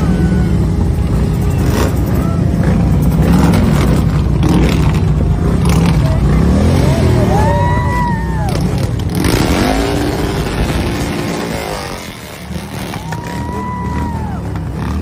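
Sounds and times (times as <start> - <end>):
motorcycle engines in traffic: 0.0 - 15.0.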